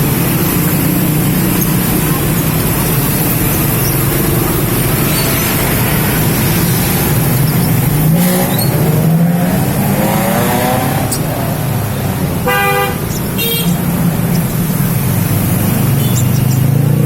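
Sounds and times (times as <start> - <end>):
engine accelerating: 0.0 - 17.0
vehicle engine running: 0.0 - 17.0.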